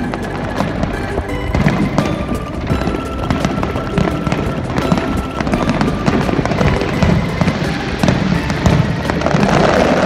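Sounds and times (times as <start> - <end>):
fireworks bangs and crackles: 0.0 - 10.0
music playing: 0.0 - 10.0.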